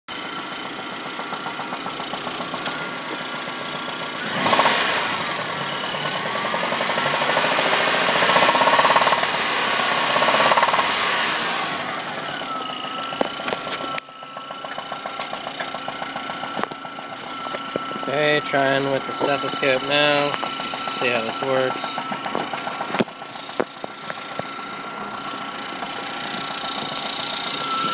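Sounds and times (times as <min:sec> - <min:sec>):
car engine knocking and revving: 0:00.1 - 0:27.9.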